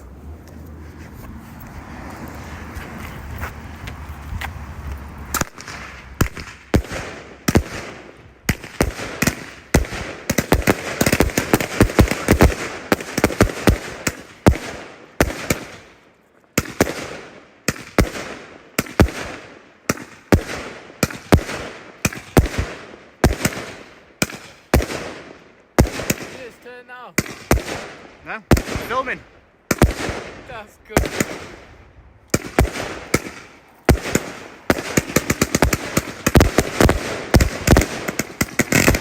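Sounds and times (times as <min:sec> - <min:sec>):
fireworks bangs and crackling: 0:05.2 - 0:39.0.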